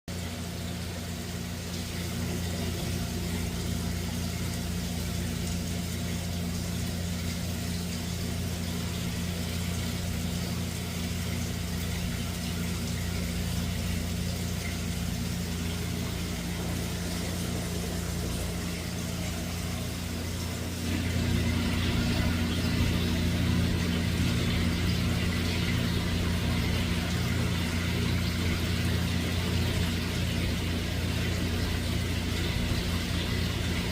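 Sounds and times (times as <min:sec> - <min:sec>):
motor humming: 0:00.2 - 0:33.9.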